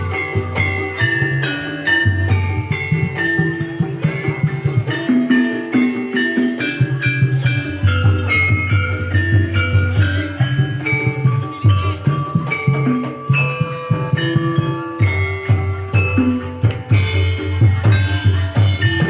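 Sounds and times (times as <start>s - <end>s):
drumming: 0.0s - 19.0s
mallet-played keyed instruments: 0.0s - 19.0s.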